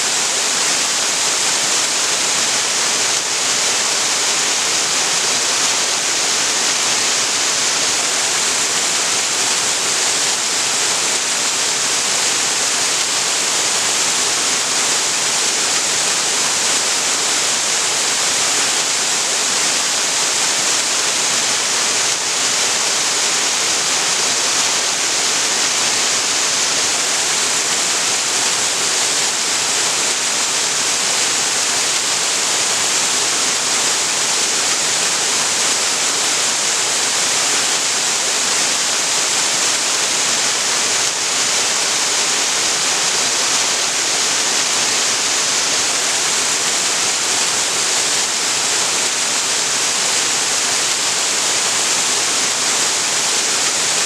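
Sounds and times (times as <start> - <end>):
waterfall splashing: 0.0 - 54.0.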